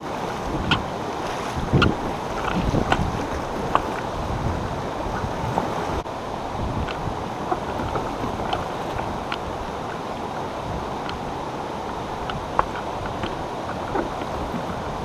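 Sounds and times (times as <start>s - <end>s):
water splashes: 0.0s - 15.0s
water washing around kayak: 0.0s - 15.0s
wind on microphone: 0.0s - 15.0s.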